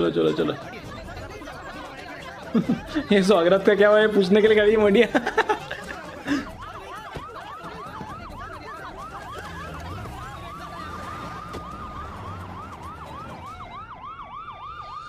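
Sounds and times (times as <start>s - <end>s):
police sirens yelping: 0.0s - 15.0s.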